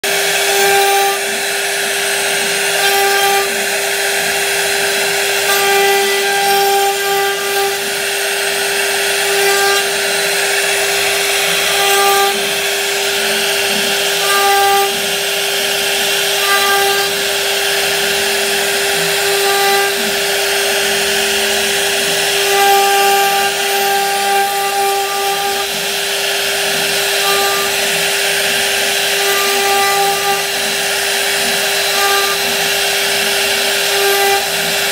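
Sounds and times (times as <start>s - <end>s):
router spindle whine: 0.0s - 34.9s.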